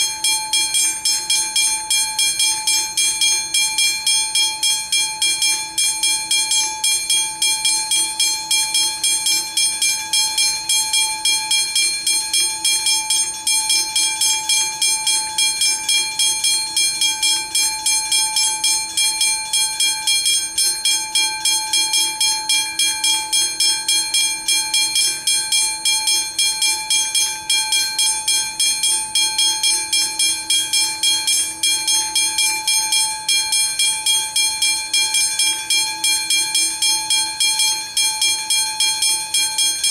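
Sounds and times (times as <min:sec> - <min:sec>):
level crossing warning bell ringing: 0:00.0 - 0:39.9.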